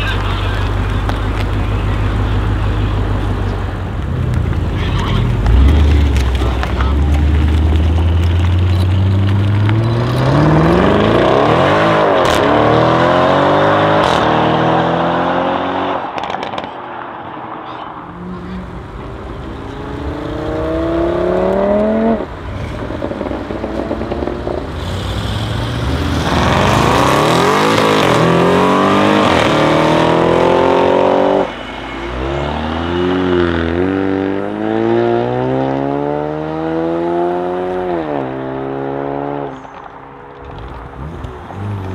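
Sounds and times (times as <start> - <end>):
car engines accelerating hard: 0.0 - 41.9.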